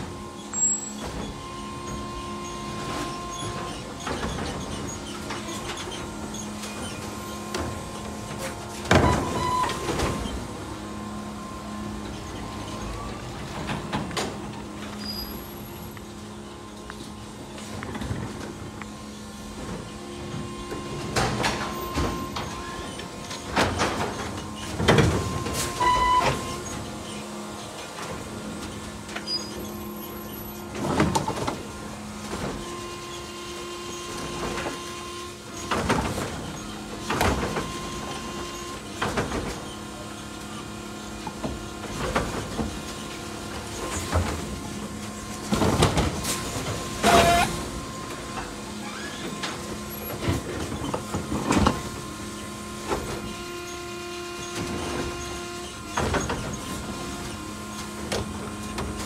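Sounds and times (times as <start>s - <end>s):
garbage truck motor whine: 0.0s - 59.0s.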